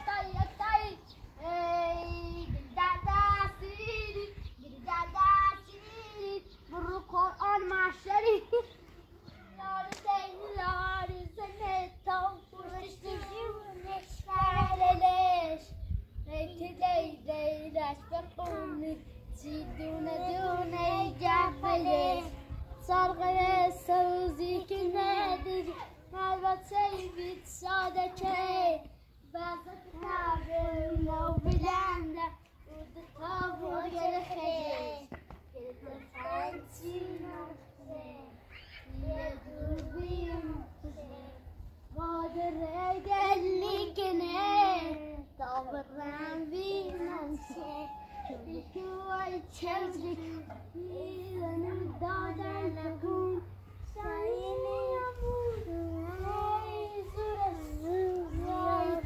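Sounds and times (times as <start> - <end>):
child singing: 0.0 - 59.0.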